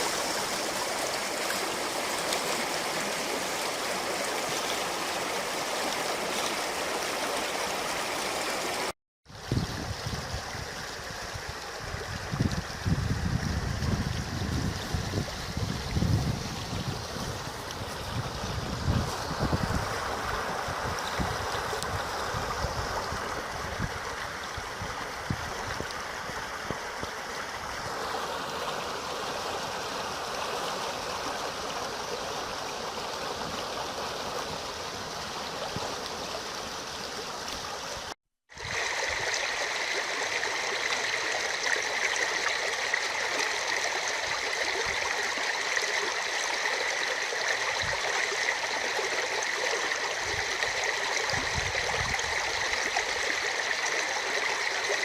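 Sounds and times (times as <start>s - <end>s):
river water rushing: 0.0s - 8.9s, 14.6s - 55.0s.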